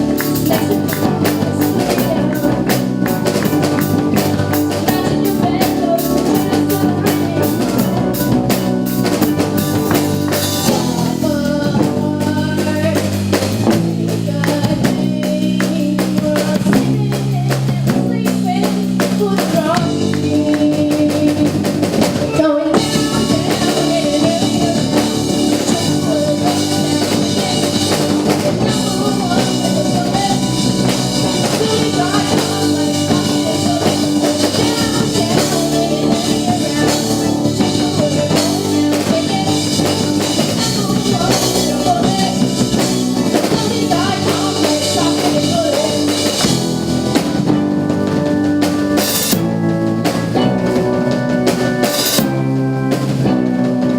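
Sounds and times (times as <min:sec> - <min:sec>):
drum kit beat: 0:00.0 - 0:53.9
live rock band playing: 0:00.0 - 0:53.9.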